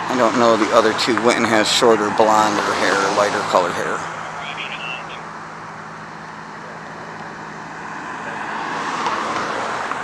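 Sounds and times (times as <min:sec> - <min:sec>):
vehicle driving past: 0:00.2 - 0:10.0.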